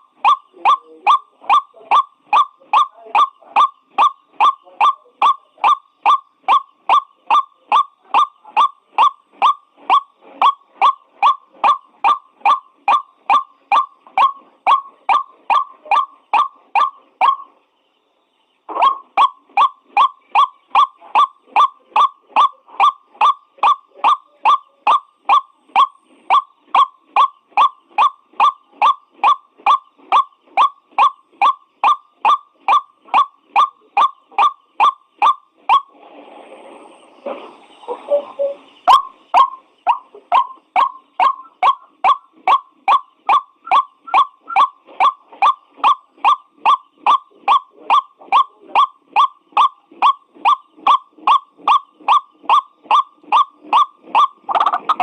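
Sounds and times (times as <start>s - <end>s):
bird calling harsh notes: 0.0s - 17.6s, 18.7s - 36.0s, 36.9s - 55.0s.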